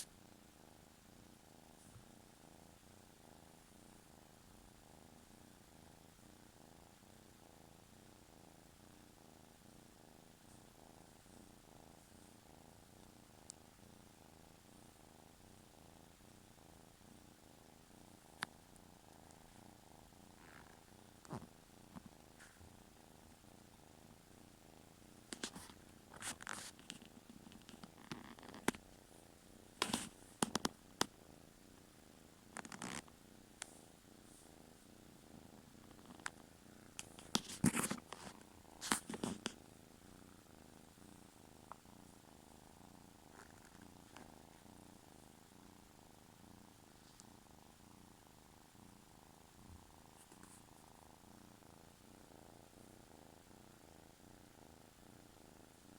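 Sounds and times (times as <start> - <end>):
kitten purring: 0.0 - 55.9.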